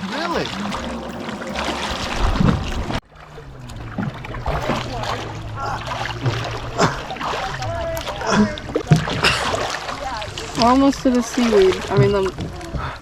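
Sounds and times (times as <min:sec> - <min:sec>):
steady low hum: 0:00.0 - 0:12.4
paddle wheel splashing water: 0:00.0 - 0:13.0.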